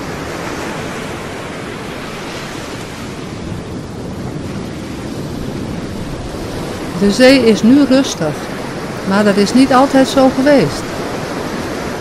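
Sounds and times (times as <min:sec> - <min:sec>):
small waves breaking on beach: 0:00.0 - 0:12.0
wind: 0:00.0 - 0:12.0.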